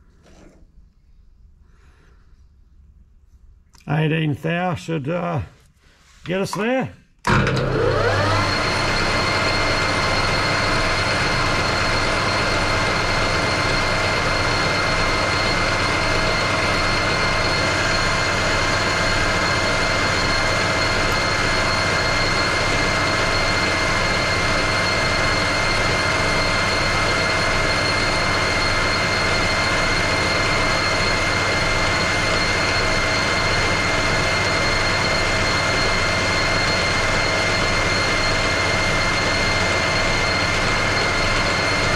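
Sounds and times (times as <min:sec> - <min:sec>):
metal lathe drone with whine: 0:07.3 - 0:41.9.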